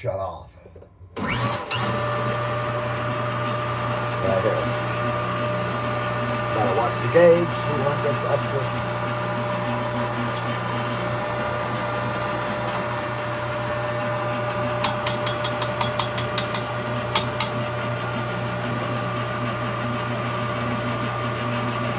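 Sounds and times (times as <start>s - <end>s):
pump motor humming: 1.2s - 21.9s.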